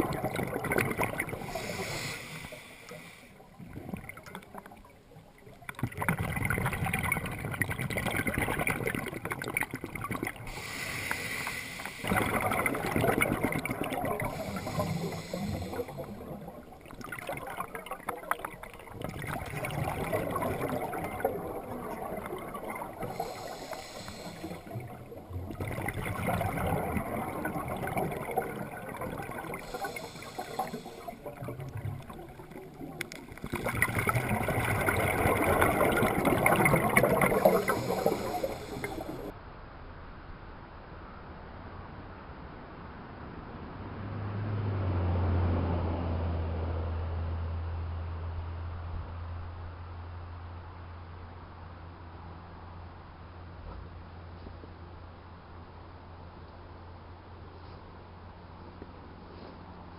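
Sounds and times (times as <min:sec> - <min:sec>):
water gurgling and sloshing: 0:00.0 - 0:39.4, 0:43.8 - 0:59.9.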